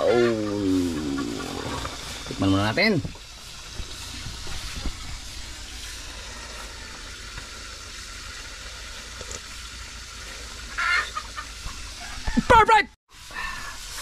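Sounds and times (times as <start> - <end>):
soup pot hissing on fire: 0.0 - 12.4, 13.1 - 14.0.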